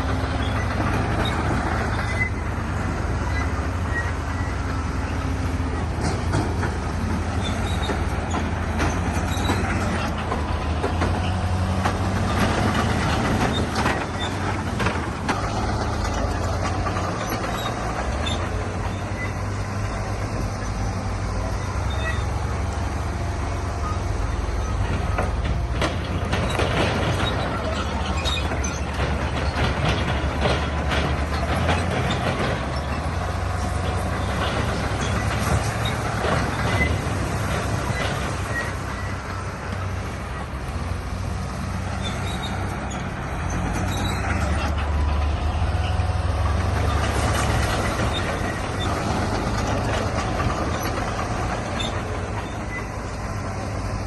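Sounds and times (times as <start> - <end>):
diesel engine running: 0.0 - 54.0
steel tracks clanking and squealing: 0.0 - 54.0.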